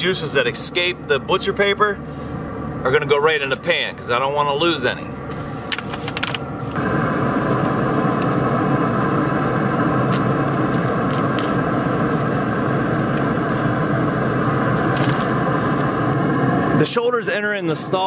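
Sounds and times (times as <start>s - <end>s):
blower fan whirring: 0.0s - 18.0s.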